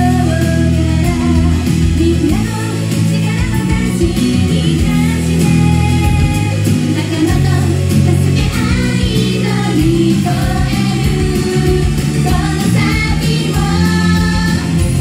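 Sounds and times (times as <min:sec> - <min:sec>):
pop backing music: 0:00.0 - 0:15.0
women singing pop song: 0:00.0 - 0:15.0.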